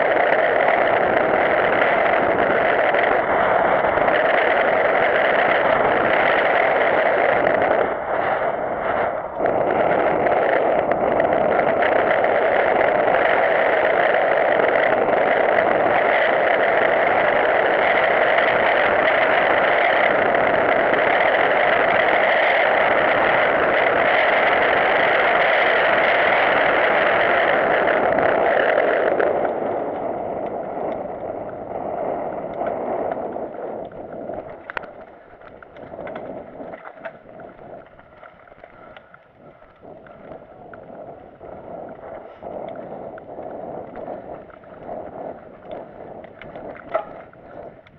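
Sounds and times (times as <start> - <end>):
bike tyre and trail noise: 0.0 - 47.9
distorted wind rush on microphone: 0.0 - 47.9.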